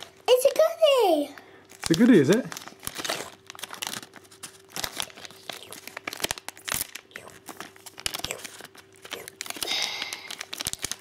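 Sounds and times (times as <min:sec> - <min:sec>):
plastic bag crinkling and tearing: 0:01.3 - 0:11.0.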